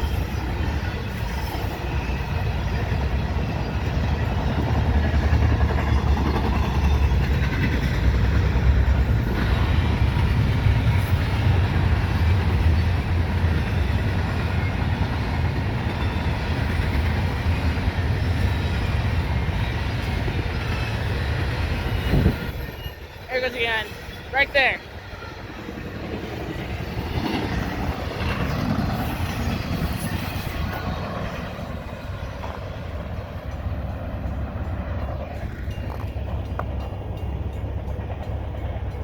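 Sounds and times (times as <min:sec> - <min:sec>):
freight train wheels rumbling on rail: 0:00.0 - 0:39.0.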